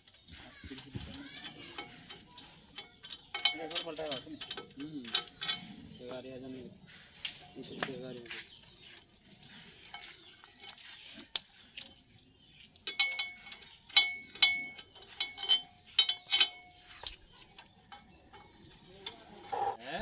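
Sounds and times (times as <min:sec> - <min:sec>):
metal tools clinking on steel: 0:00.0 - 0:06.4, 0:09.8 - 0:19.8.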